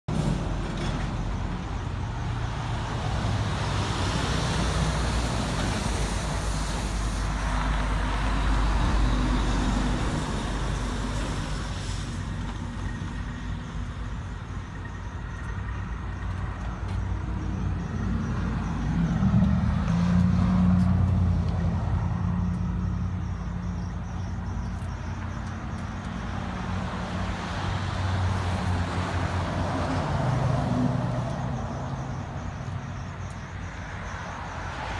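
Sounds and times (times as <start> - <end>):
traffic going by: 0.0 - 34.9
low engine hum: 0.1 - 33.5.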